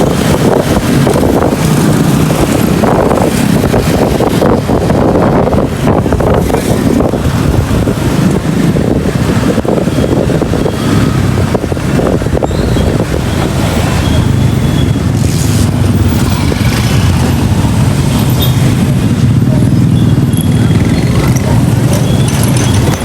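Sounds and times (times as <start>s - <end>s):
vehicle engine and road rumble: 0.0s - 23.0s
wind buffeting microphone: 0.0s - 23.0s.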